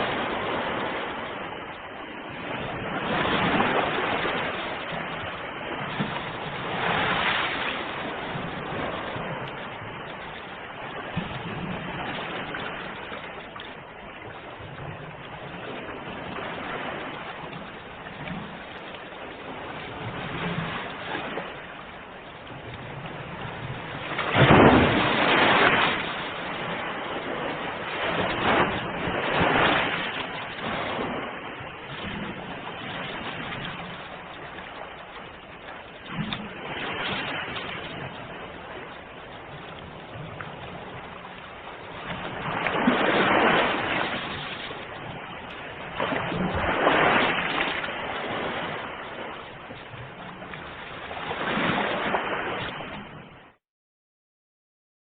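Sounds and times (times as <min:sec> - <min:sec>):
ocean waves breaking on shore: 0:00.0 - 0:53.6.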